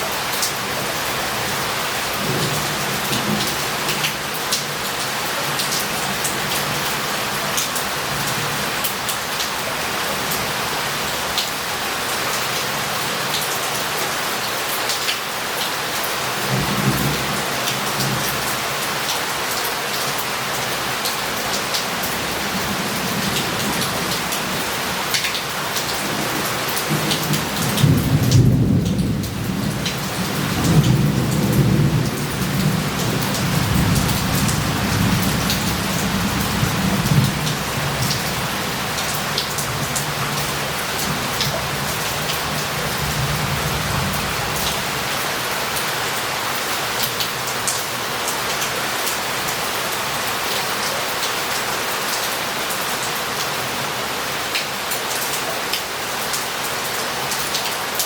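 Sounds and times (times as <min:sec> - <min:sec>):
heavy rain on street: 0:00.0 - 0:58.0.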